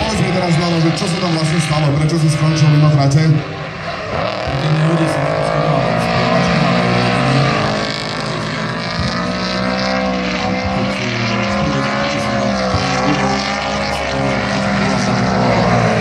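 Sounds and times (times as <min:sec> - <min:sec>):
drift car engines at high revs: 0:00.0 - 0:16.0.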